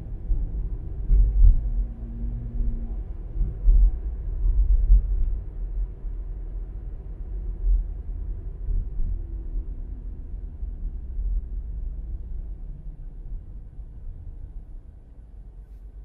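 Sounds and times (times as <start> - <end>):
car engine and tyres driving: 0.0 - 16.0.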